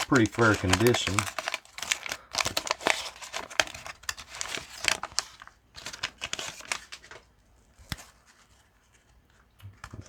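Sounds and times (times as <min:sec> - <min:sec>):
wax-paper wrapper crinkling: 0:00.0 - 0:09.2.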